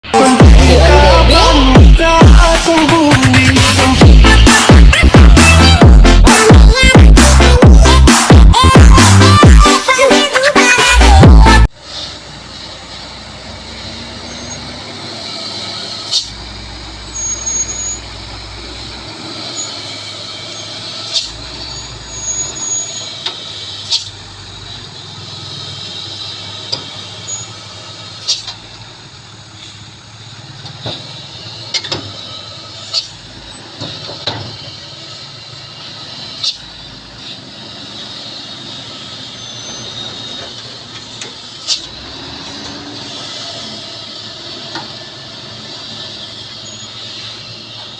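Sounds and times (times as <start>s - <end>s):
truck engine and road noise: 0.0s - 47.9s.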